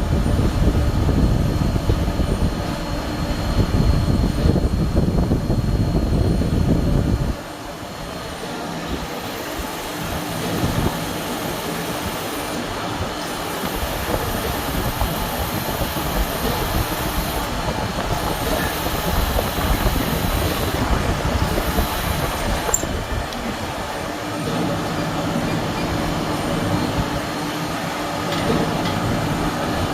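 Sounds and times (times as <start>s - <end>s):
milling machine rumble and clatter: 0.0s - 29.9s.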